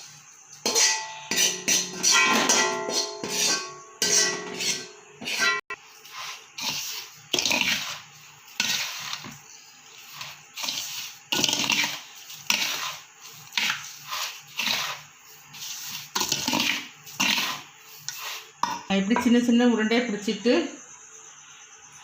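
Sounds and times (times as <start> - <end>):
hands mixing dry mixture: 0.7 - 19.5.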